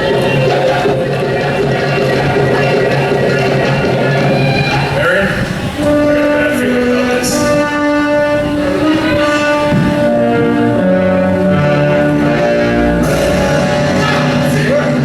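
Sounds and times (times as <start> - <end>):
orchestral bowed strings: 0.0 - 15.0.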